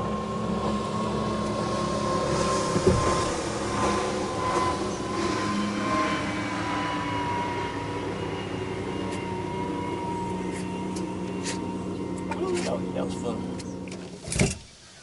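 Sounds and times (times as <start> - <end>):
outboard motor drone: 0.0 - 14.8.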